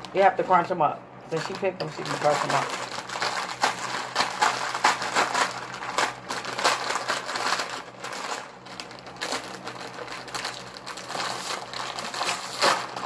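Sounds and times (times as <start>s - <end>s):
plastic bag crinkling: 1.3s - 13.0s
dry noodles crunching: 1.4s - 13.0s.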